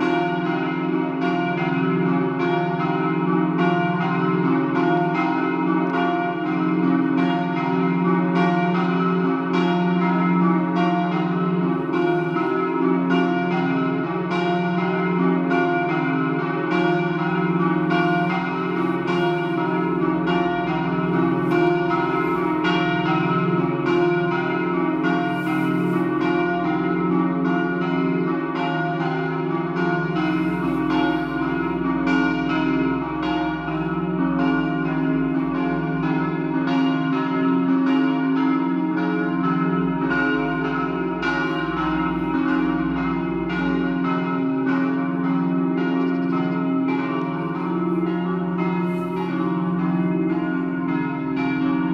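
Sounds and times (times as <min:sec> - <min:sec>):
church bells pealing: 0:00.0 - 0:51.9.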